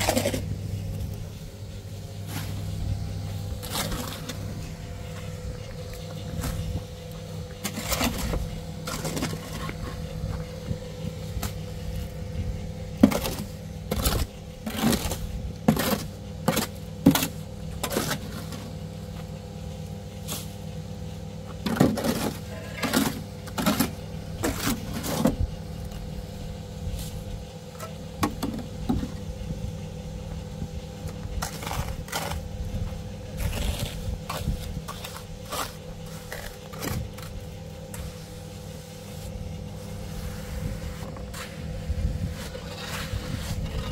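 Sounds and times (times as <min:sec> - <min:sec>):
low motor hum: 0:00.0 - 0:43.9.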